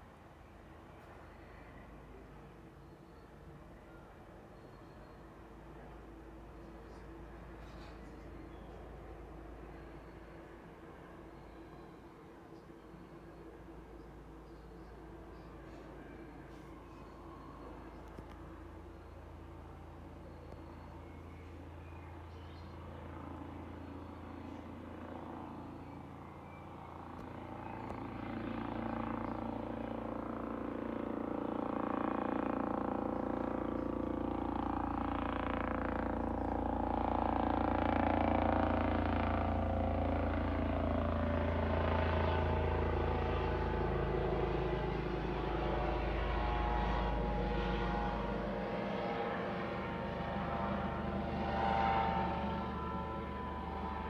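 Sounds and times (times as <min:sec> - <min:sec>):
helicopter rotor drone: 0:00.0 - 0:54.0
helicopter whine: 0:00.0 - 0:54.0.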